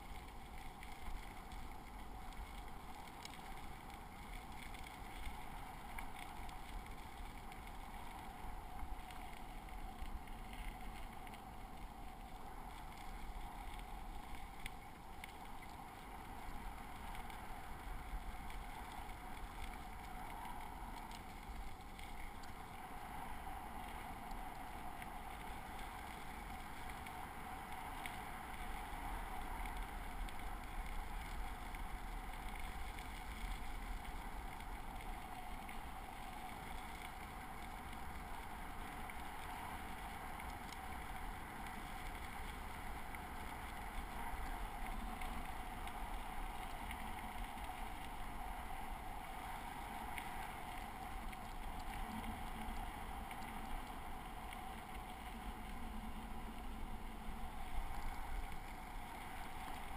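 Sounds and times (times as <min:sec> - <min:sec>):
bicycle tyres rolling on gravel: 0:00.0 - 0:59.9
faint ticks and rattles: 0:00.0 - 0:59.9
wind rumbling on microphone: 0:00.0 - 0:59.9.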